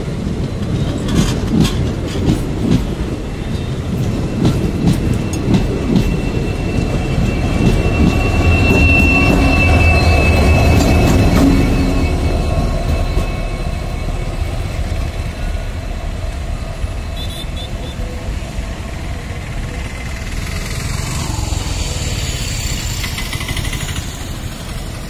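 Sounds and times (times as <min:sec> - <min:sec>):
diesel locomotive engine rumbling: 0:00.0 - 0:25.0.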